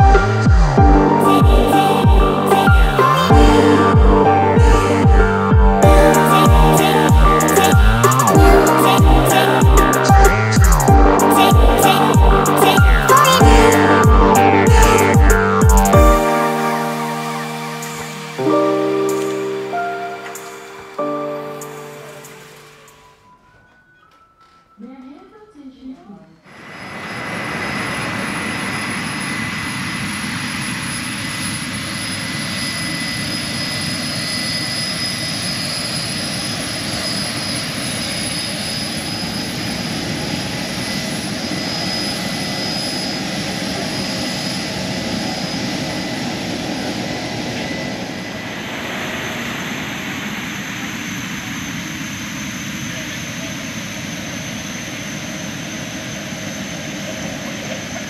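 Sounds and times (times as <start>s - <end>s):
jet aircraft noise: 0.0s - 23.1s, 26.5s - 58.0s.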